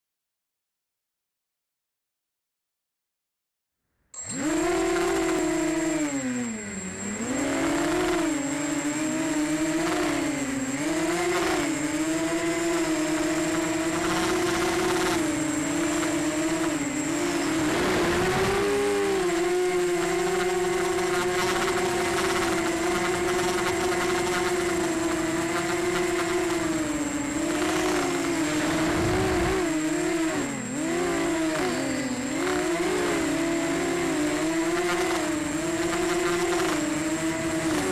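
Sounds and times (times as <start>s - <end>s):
thin steady high tone: 4.2s - 34.7s
drone motors whining: 4.2s - 37.9s.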